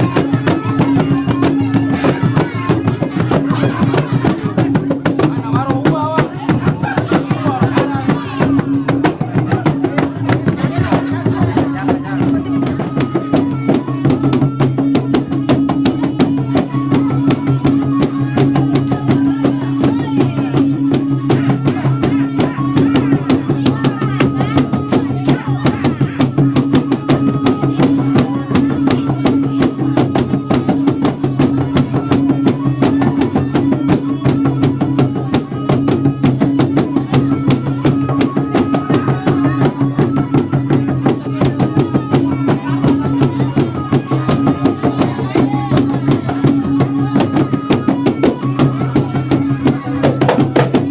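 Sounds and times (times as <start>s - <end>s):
rapid steady drumming: 0.0s - 50.9s.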